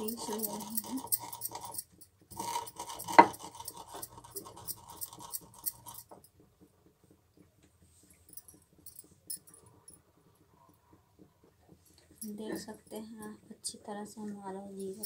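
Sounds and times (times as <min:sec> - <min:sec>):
rolling pin crushing seeds: 0:00.0 - 0:15.0.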